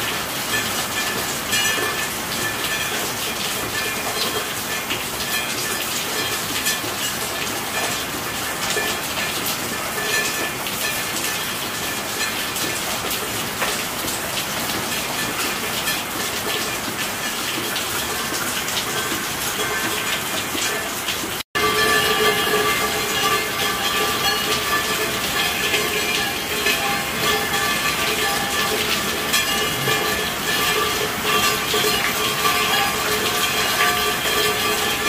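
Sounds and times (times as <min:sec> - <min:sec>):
raindrop impacts: 0:00.0 - 0:35.0
steady rain falling: 0:00.0 - 0:35.0.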